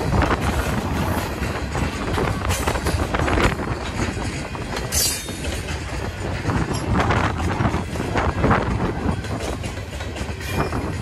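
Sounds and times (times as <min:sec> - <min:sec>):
freight train wheels clacking: 0:00.0 - 0:11.0
train low rumble: 0:00.0 - 0:11.0.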